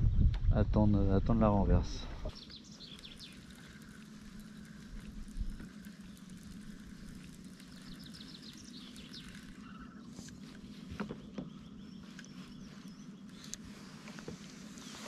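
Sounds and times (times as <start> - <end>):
small birds chirping: 1.6 - 15.0.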